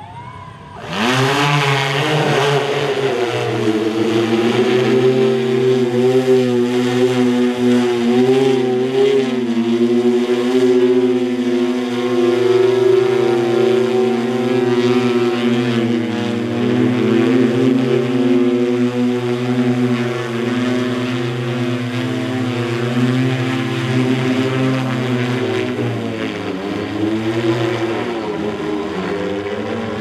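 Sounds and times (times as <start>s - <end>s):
aircraft propellers humming overhead: 0.0s - 30.0s.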